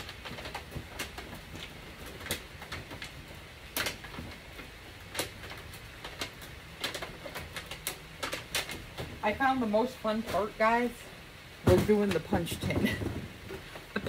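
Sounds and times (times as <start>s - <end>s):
aluminum sheets crinkling: 0.0s - 14.0s.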